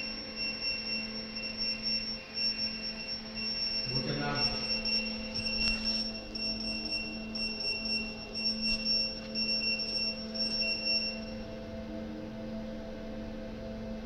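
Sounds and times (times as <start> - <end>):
electronic beeper beeping: 0.0 - 11.5
low electrical hum: 0.0 - 14.0.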